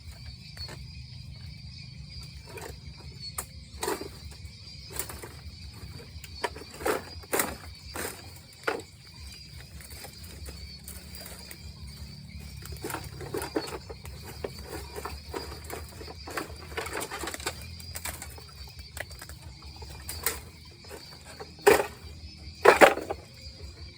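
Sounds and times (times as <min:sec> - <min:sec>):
high insect drone: 0:00.0 - 0:23.9.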